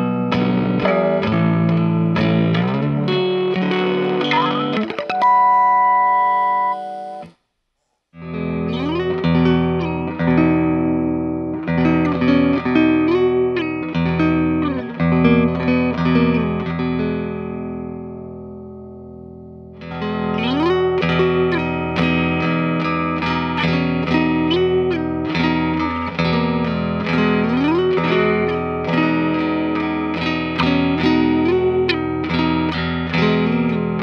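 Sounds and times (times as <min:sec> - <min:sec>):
electric guitar through amp: 0:00.0 - 0:07.4, 0:08.2 - 0:34.0.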